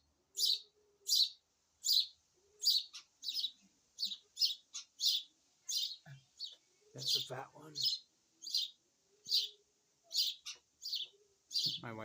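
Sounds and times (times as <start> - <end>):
nestling birds chirping: 0.0 - 12.0.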